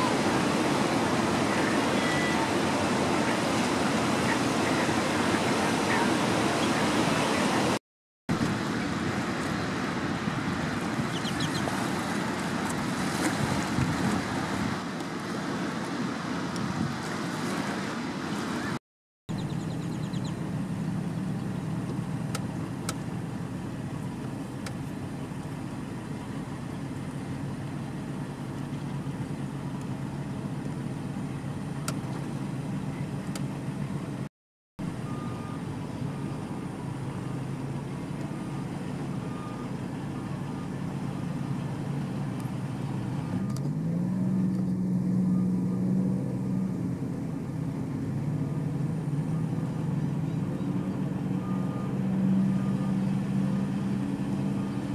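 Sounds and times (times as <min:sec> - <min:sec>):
vehicle engine humming: 0:00.0 - 0:54.9.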